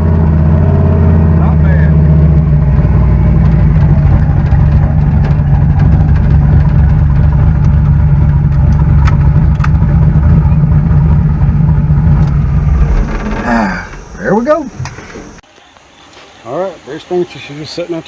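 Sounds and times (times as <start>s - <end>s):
vehicle engine idling: 0.0s - 15.4s.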